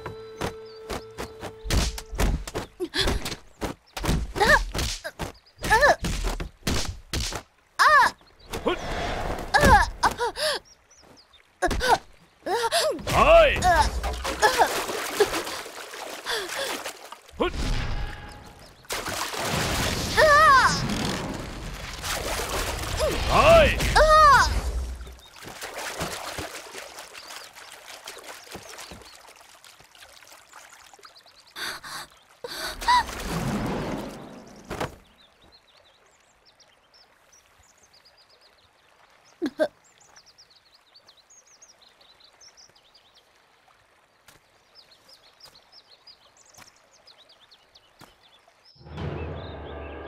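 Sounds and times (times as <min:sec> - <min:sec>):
small birds chirping: 0:00.0 - 0:06.1, 0:07.8 - 0:09.1, 0:10.0 - 0:19.3, 0:22.7 - 0:33.2, 0:34.1 - 0:50.0
cascading water rushing: 0:04.4 - 0:48.2.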